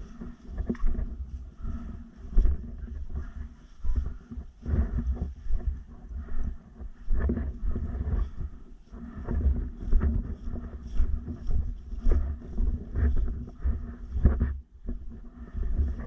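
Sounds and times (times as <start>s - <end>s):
microphone handling noise: 0.0s - 16.0s
wind buffeting microphone: 0.0s - 16.0s.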